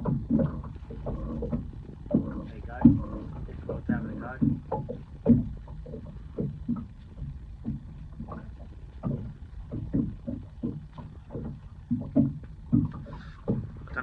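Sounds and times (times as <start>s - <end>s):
low steady rumble: 0.0s - 14.0s
waves slapping boat hull: 0.0s - 14.0s.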